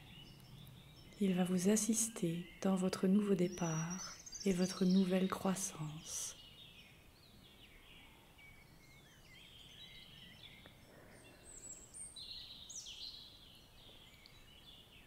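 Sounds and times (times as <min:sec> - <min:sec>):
background hiss: 0:00.0 - 0:15.0
birds chirping: 0:00.0 - 0:15.0.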